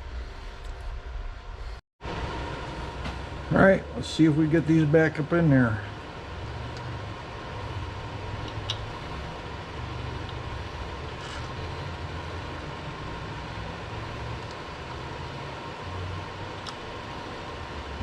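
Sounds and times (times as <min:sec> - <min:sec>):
shop equipment humming: 0:01.6 - 0:18.0.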